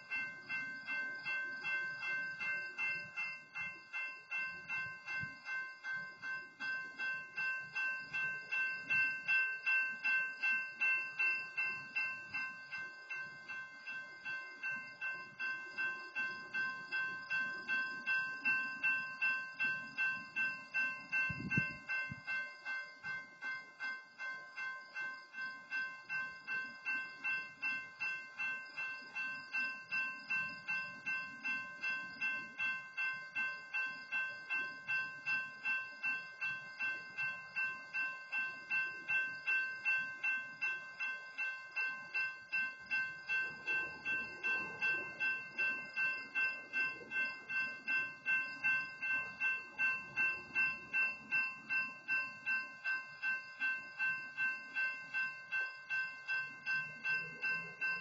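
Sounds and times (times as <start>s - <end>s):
crossing warning bell ringing: 0.0s - 58.0s.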